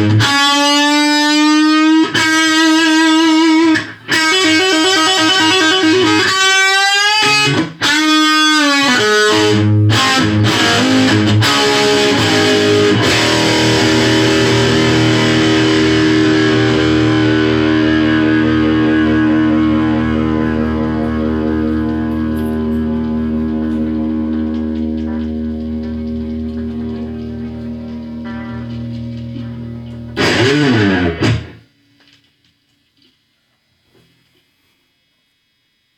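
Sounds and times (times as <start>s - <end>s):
electric guitar bent notes: 0.0s - 31.6s
electric guitar chord ringing: 0.0s - 31.6s.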